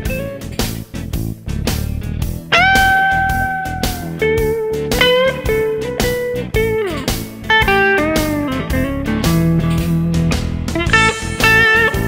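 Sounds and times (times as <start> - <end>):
bluesy electric guitar over beat: 0.0 - 12.0.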